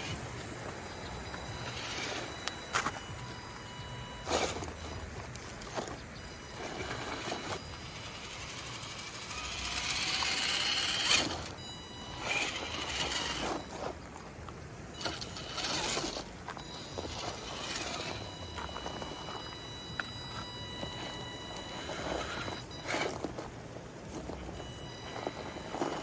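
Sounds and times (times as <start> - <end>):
toy car electric motor whining: 0.0 - 14.0, 14.9 - 23.5, 24.1 - 26.0.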